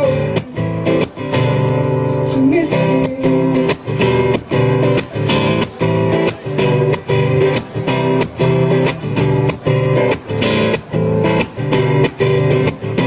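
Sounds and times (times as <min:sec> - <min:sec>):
guitar strumming: 0:00.0 - 0:13.0.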